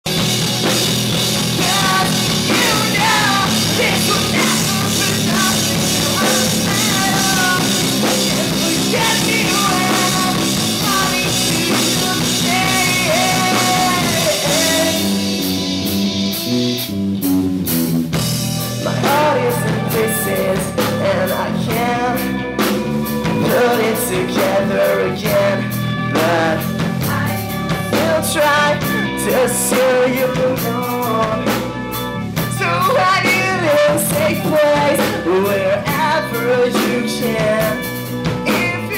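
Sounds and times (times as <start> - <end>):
rock band playing live: 0.0 - 38.9
lead melody with bending notes: 0.1 - 38.9.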